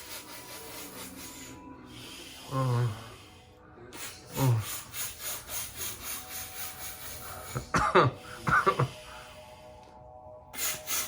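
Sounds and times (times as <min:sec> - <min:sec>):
man breathing rapidly: 0:00.6 - 0:09.8.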